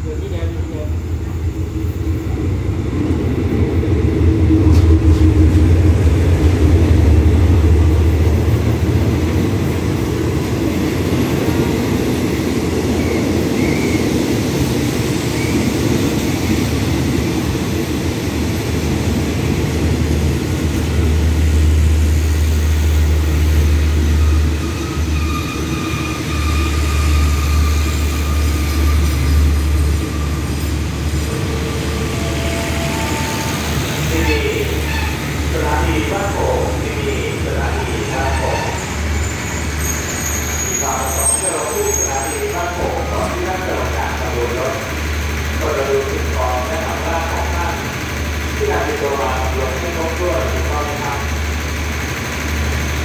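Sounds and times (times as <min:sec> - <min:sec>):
passenger coaches rolling past: 0:00.0 - 0:53.0.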